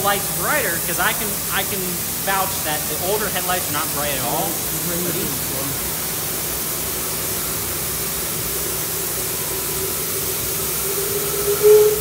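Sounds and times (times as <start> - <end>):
steam locomotive venting steam: 0.0 - 12.0.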